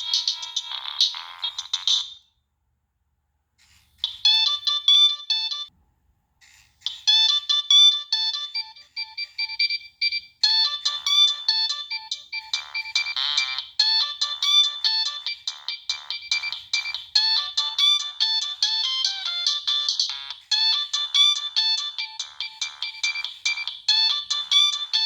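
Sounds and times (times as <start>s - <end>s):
mobile phone ringtone melody: 0.0s - 2.2s, 4.0s - 5.7s, 6.9s - 25.0s.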